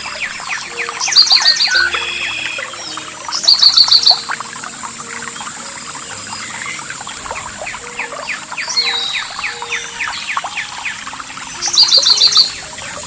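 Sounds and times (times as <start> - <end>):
stream trickling over stones: 0.0 - 13.0
bird whistling: 0.1 - 4.3, 6.4 - 13.0.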